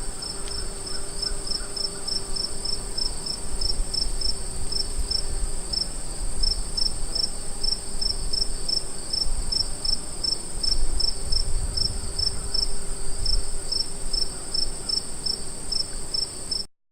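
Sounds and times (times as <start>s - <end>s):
crickets chirping: 0.0s - 16.6s.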